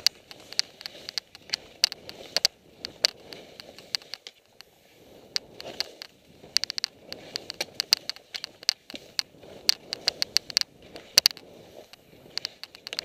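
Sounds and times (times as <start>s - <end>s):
sharp clicks and rattles: 0.0s - 4.7s, 5.3s - 13.0s
skis swishing through snow: 0.0s - 13.0s.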